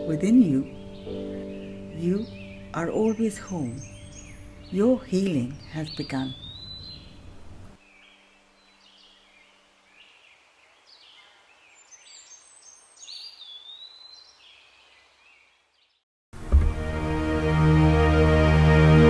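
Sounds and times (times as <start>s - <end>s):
faint songbird singing: 0.0s - 16.0s.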